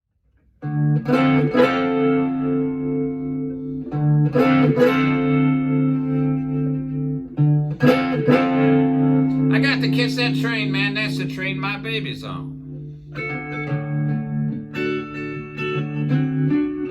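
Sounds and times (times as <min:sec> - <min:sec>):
electric blues guitar: 0:00.6 - 0:16.9.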